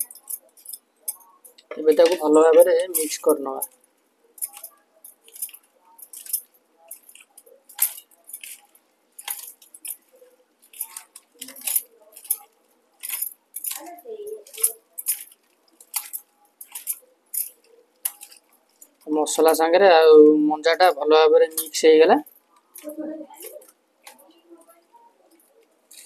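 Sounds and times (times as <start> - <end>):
bangles clinking on steel bowl: 0.0 - 19.7, 20.7 - 26.0.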